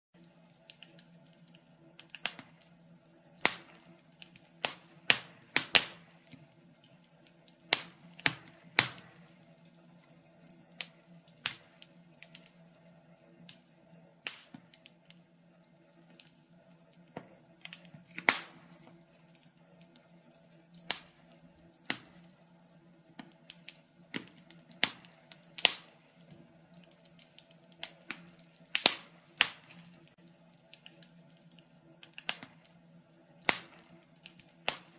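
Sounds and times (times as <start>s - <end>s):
faint steady hum: 0.2s - 34.9s
wood fire crackling: 0.2s - 34.9s.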